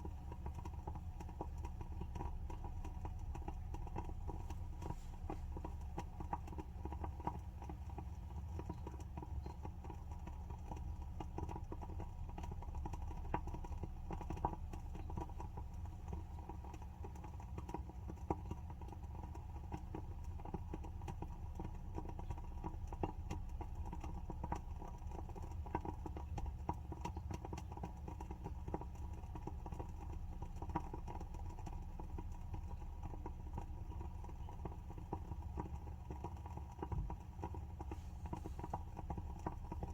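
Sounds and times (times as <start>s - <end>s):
steady low hum: 0.0s - 39.9s
candle wick crackling: 0.1s - 26.7s, 28.0s - 39.9s.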